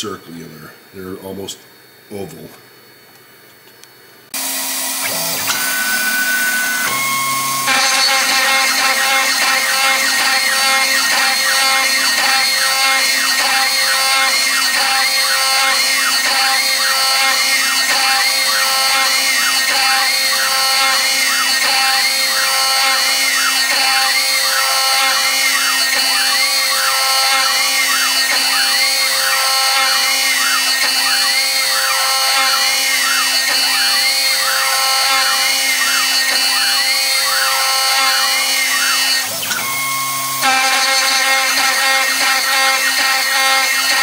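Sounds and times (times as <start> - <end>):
router spindle milling metal: 4.4 - 44.0.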